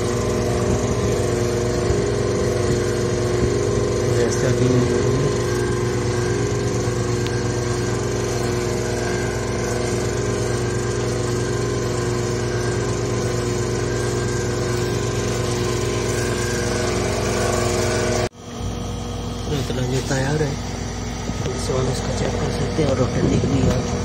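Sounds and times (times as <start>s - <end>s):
refrigerator compressor humming: 0.0s - 24.0s.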